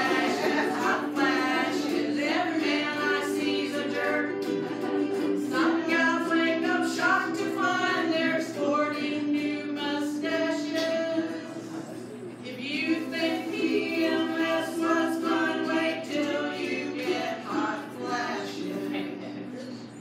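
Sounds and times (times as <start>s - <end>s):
woman singing: 0.0s - 11.6s, 12.5s - 19.1s
strummed ukuleles: 0.0s - 20.0s.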